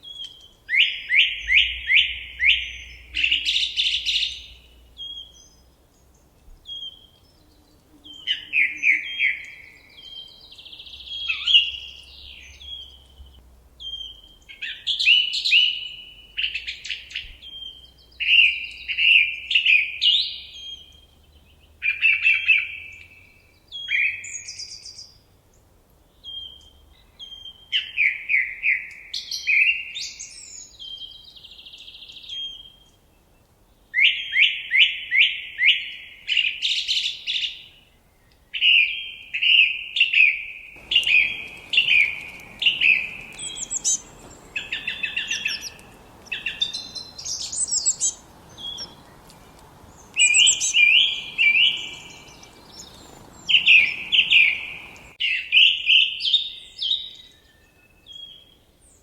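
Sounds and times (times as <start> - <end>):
faint background hiss: 0.0 - 55.5
songbirds singing: 0.0 - 59.0.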